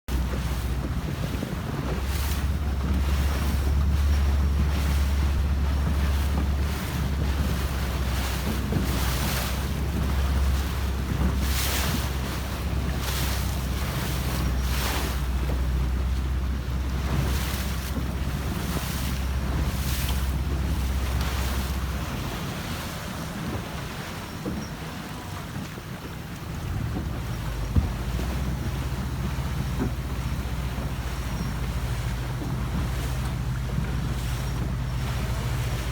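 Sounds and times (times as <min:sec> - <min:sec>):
loud water splashes: 0:00.1 - 0:35.9
water rushing and splashing: 0:00.1 - 0:35.9
wind rumbling on microphone: 0:00.1 - 0:35.9.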